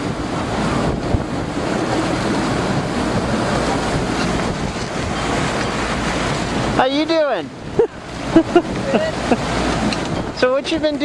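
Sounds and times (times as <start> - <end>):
sea waves washing: 0.0 - 11.0
wind noise on microphone: 0.0 - 11.0.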